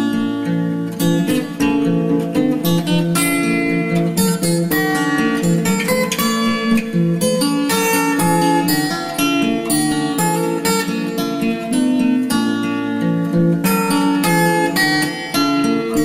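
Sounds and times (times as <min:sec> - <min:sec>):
acoustic guitar plucking and strumming: 0:00.0 - 0:16.0.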